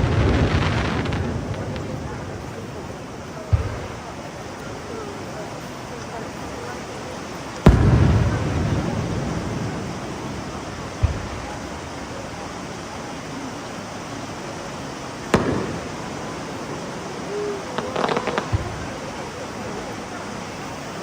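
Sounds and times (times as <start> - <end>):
fireworks bursting: 0.0 - 21.0
outdoor crowd noise: 0.0 - 21.0.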